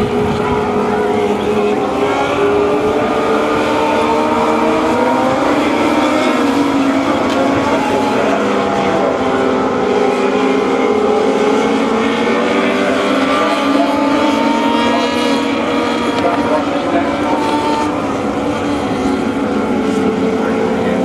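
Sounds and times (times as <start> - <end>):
small race car engines: 0.0 - 21.0.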